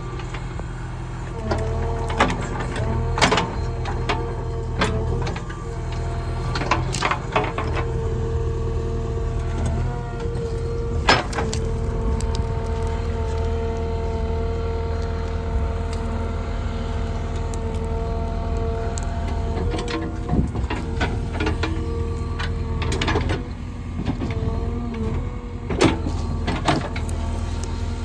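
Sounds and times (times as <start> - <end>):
diesel engine running under load: 0.0 - 28.0
steady whine: 0.0 - 28.0.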